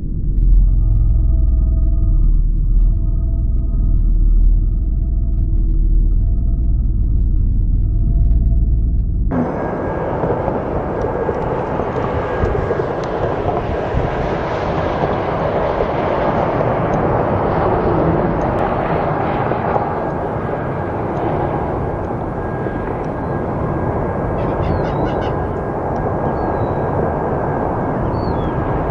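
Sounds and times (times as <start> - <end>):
airplane roar with whine: 0.0 - 28.9.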